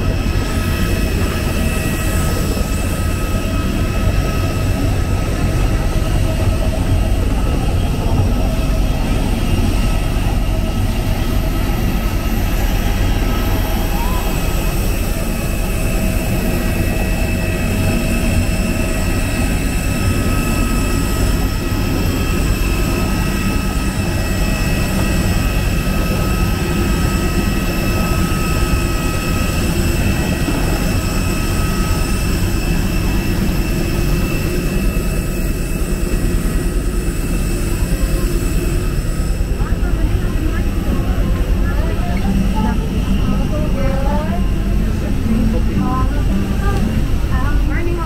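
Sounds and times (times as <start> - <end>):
airliner cabin rumble: 0.0 - 48.0
high steady whining tones: 0.0 - 48.0.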